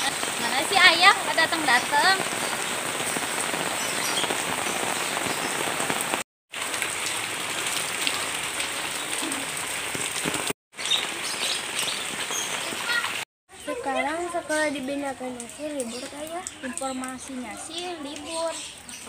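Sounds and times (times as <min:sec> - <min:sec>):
rain falling on concrete: 0:00.0 - 0:19.0.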